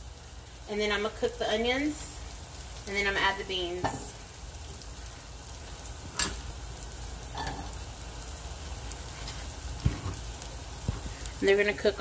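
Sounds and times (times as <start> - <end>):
bacon and onions sizzling in pan: 0.0 - 12.0.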